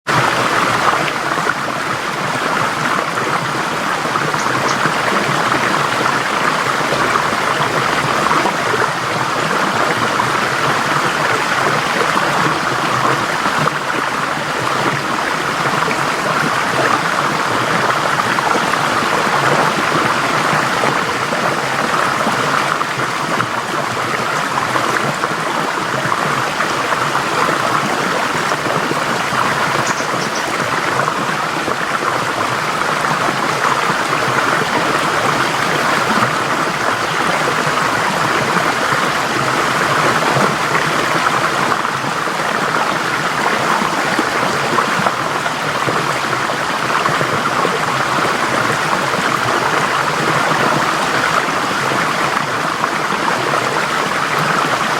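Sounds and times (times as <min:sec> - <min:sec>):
stream babbling over rocks: 0:00.0 - 0:54.9.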